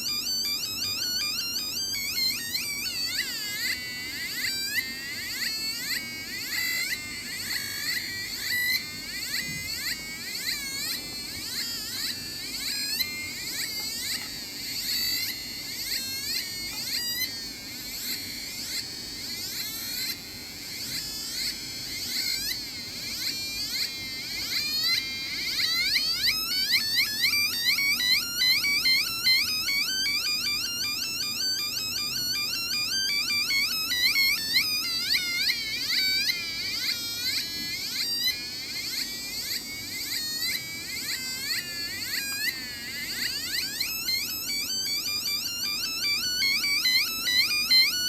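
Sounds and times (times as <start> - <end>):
synthetic electronic chirps: 0.0 - 48.0.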